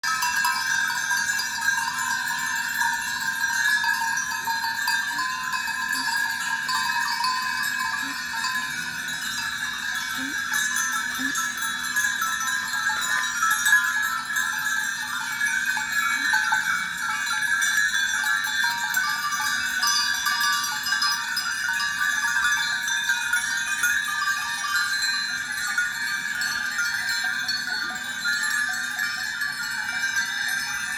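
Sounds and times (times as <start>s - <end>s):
sheep bells jingling: 0.0s - 30.9s.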